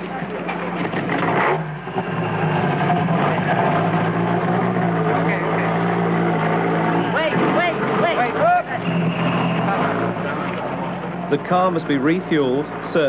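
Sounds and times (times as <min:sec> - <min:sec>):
rally car engine droning: 0:00.0 - 0:13.0.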